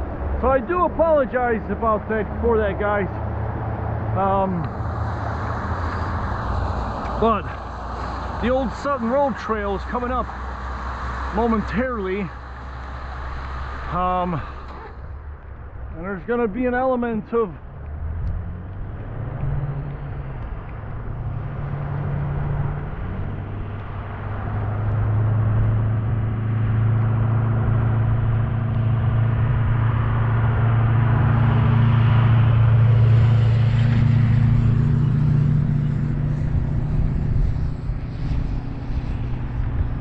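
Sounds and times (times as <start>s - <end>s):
vehicle engine labouring uphill: 0.0s - 40.0s.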